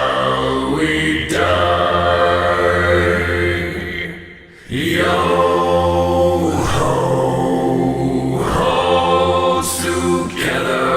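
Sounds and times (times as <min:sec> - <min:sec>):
low voices singing a cappella: 0:00.0 - 0:10.9.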